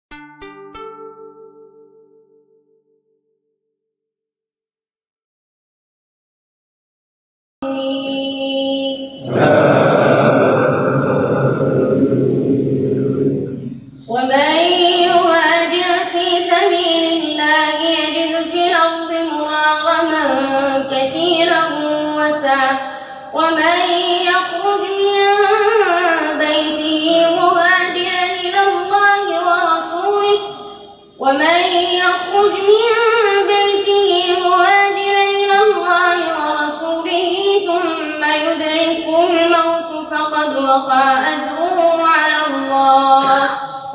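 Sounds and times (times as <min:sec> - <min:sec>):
boy reciting melodically: 0:07.6 - 0:43.9.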